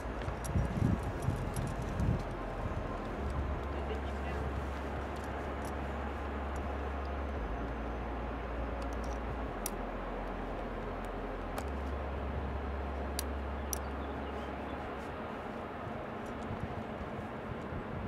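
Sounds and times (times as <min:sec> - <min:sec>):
low rumble: 0:00.0 - 0:18.0
rushing outdoor noise: 0:00.0 - 0:18.0.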